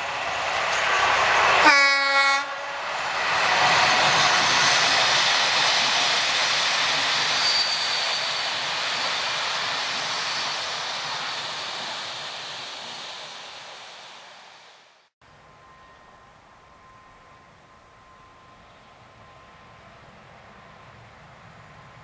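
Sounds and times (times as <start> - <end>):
train coaches rolling on rails: 0.0 - 22.0.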